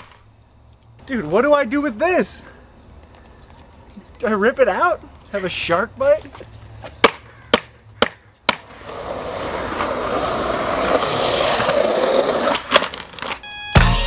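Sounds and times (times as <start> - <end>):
skateboard wheels rolling on concrete: 0.0 - 13.8.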